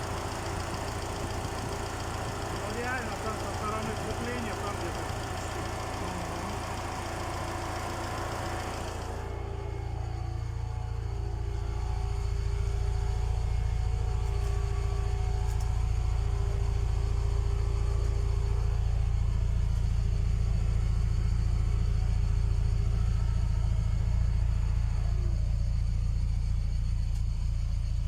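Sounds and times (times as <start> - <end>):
truck engine rumble: 0.0 - 28.0.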